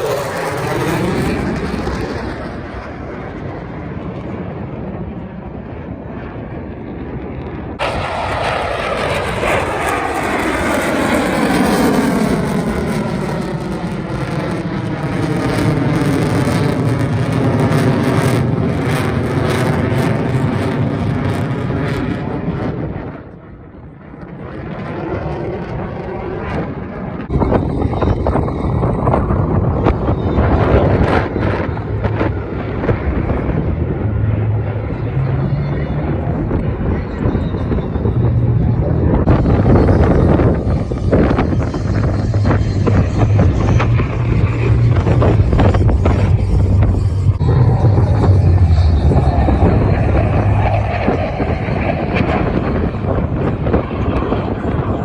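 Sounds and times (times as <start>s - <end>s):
airplane engine rumble: 0.0s - 55.0s.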